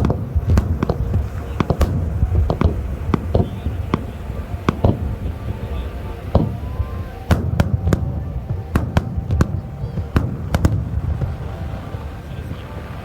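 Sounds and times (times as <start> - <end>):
fireworks bursting with sharp bangs: 0.0 - 13.0
low rumble: 0.0 - 13.0.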